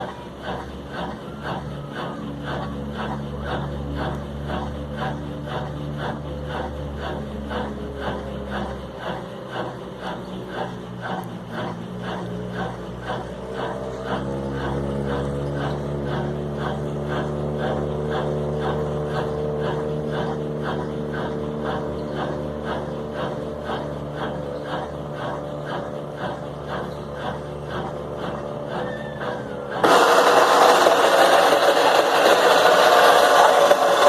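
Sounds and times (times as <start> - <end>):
washing machine motor hum: 0.0 - 34.0.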